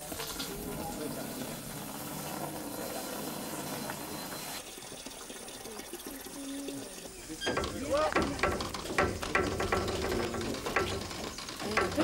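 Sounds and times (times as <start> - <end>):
liquid pouring into a can: 0.0 - 12.0.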